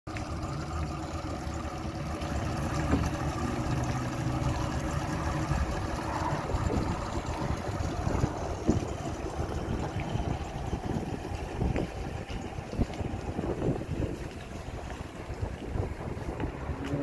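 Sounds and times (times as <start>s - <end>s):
boat engine idling: 0.1s - 17.0s.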